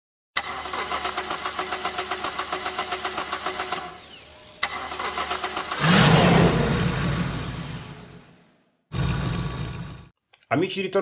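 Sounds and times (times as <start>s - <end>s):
car engine starting and revving: 0.4s - 10.1s.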